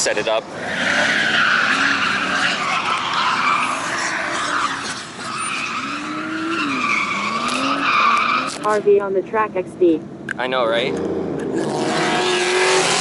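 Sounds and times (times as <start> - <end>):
tires squealing: 0.0 - 9.0, 11.0 - 13.0
car engines revving: 0.0 - 13.0.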